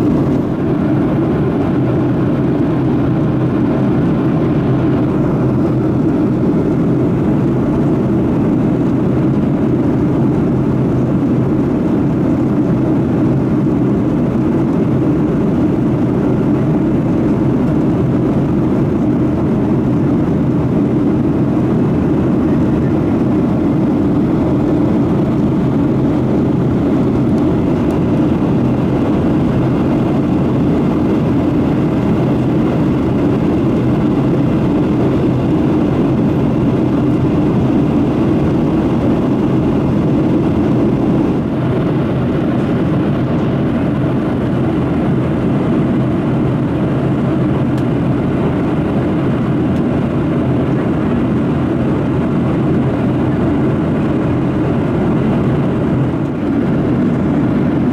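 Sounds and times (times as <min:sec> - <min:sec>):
airplane cabin engine rush: 0:00.0 - 0:57.9.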